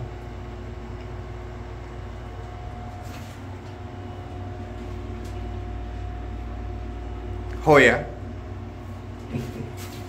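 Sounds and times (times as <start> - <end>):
air conditioning unit humming: 0.0 - 10.0.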